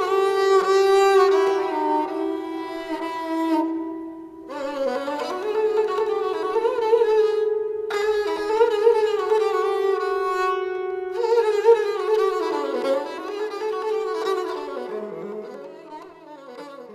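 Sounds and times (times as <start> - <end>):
sarangi bowed melody: 0.0 - 16.9.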